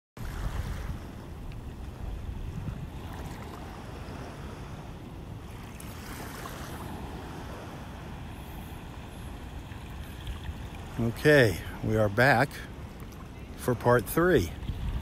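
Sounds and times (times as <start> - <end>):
wind buffeting microphone: 0.2 - 13.6, 14.2 - 15.0
small waves at shoreline: 0.2 - 15.0.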